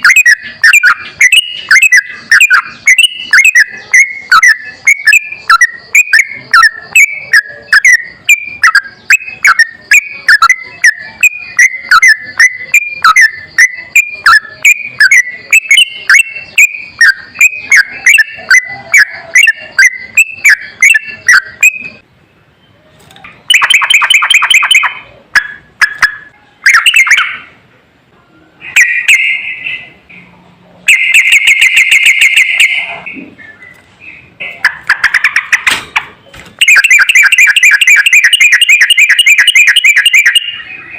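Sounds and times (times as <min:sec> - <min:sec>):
bird rapid trilled phrases: 0:00.0 - 0:22.0, 0:23.0 - 0:27.6, 0:28.6 - 0:40.9
bird sharp repeated chirps: 0:00.0 - 0:27.6, 0:28.6 - 0:40.9.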